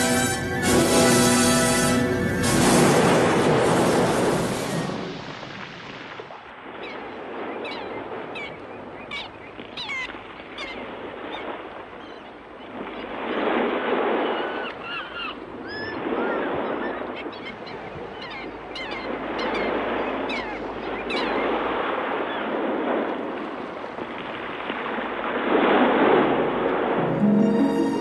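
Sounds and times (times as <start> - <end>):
sea surf washing in: 0.0 - 8.4, 12.7 - 28.0.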